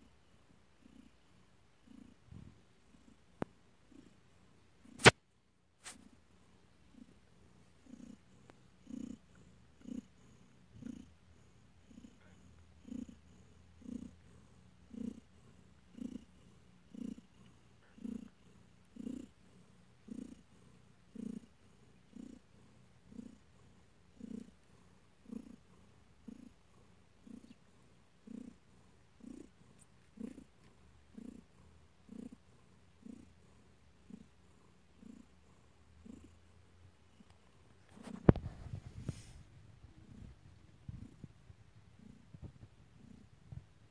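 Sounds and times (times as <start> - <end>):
cat purring: 0.0 - 5.2, 5.8 - 43.9.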